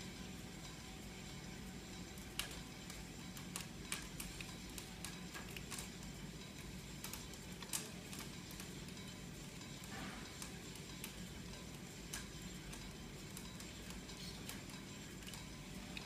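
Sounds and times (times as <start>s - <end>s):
film clicks and pops: 2.2s - 9.0s, 9.7s - 16.0s.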